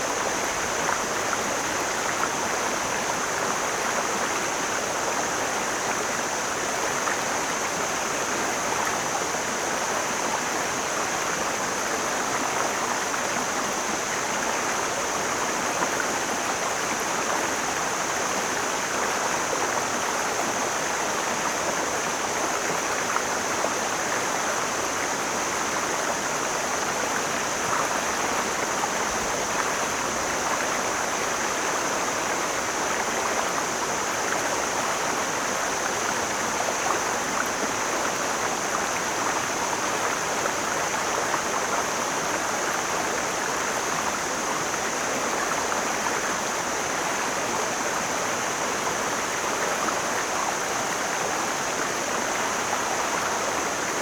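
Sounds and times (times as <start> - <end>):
mountain stream flowing: 0.0 - 54.0.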